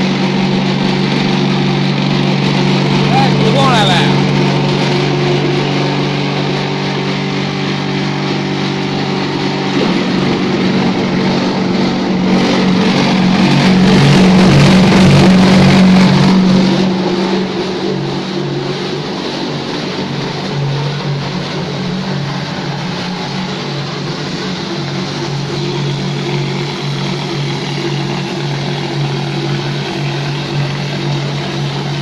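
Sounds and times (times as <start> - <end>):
mortar sprayer motor hum: 0.0 - 32.0.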